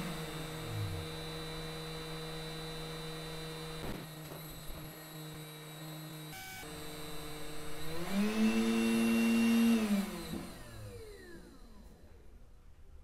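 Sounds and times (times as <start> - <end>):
heat gun fan motor whirring: 0.0 - 11.8.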